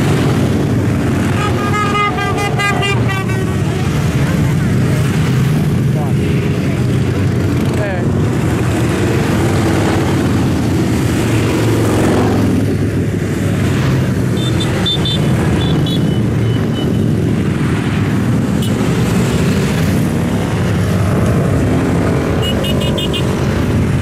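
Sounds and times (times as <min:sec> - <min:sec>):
motorcycles and cars passing: 0:00.0 - 0:24.0.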